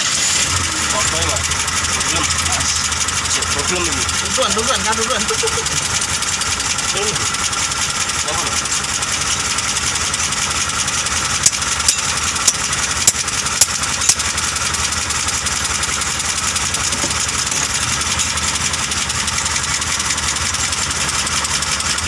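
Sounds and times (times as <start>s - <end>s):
engine idling rough: 0.0s - 22.0s.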